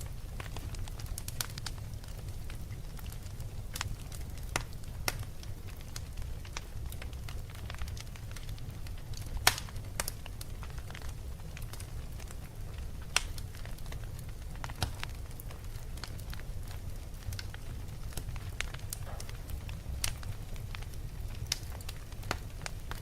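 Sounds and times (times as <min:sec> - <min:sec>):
fire crackling and popping: 0:00.0 - 0:23.0
fire low rumble: 0:00.0 - 0:23.0.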